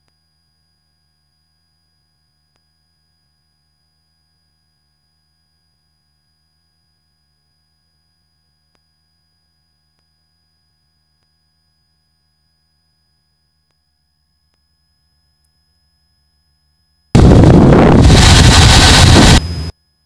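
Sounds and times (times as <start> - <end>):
faint electrical hum: 0.0 - 20.0
thin high whine: 0.0 - 20.0.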